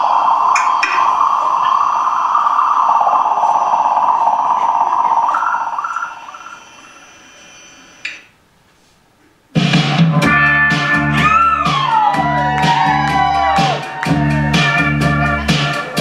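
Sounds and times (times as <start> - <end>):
sound system drone: 0.0 - 8.3, 9.6 - 16.0.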